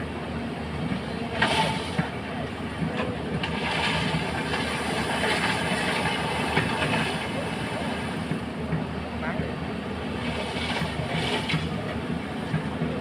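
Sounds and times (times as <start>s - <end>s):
excavator running: 0.0s - 13.0s.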